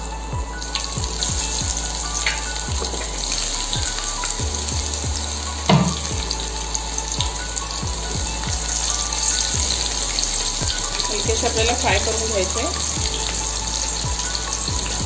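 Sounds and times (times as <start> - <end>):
background music with steady beat: 0.0 - 15.0
gourd slices sizzling in oil: 0.0 - 15.0.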